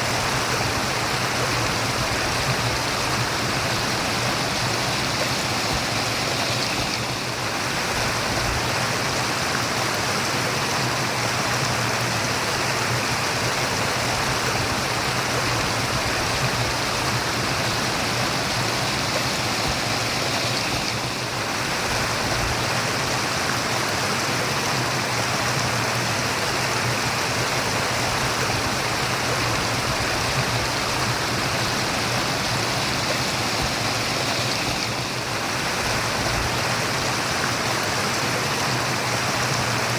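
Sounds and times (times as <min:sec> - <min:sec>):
stream of water rushing: 0:00.0 - 0:39.9.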